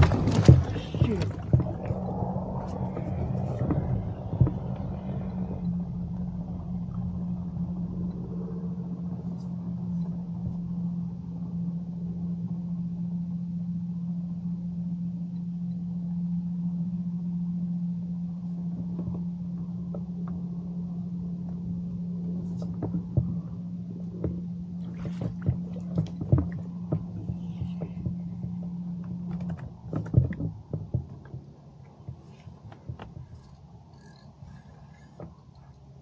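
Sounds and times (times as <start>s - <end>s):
knocks and clicks in boat: 0.0s - 11.6s, 18.4s - 36.0s
boat motor humming: 0.0s - 36.0s.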